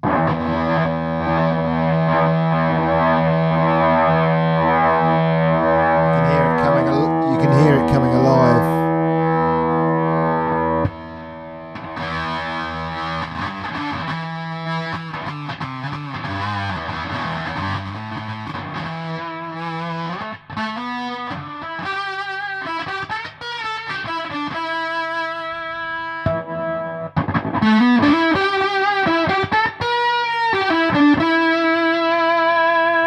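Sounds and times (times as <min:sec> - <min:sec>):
electric guitar with fuzz distortion: 0:00.0 - 0:33.0.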